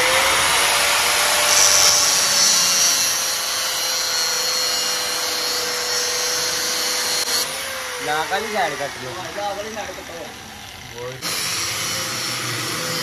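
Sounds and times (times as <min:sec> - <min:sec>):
power tool cutting metal: 0:00.0 - 0:13.0.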